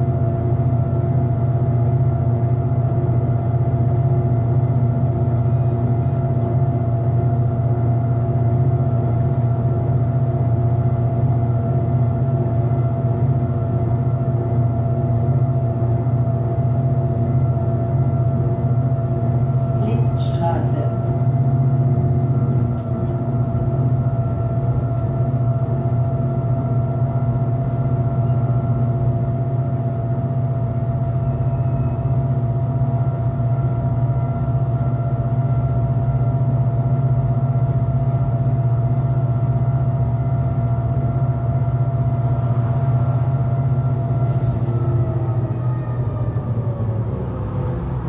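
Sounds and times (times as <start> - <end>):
electric drive whine: 0.0 - 48.0
train low hum: 0.0 - 48.0.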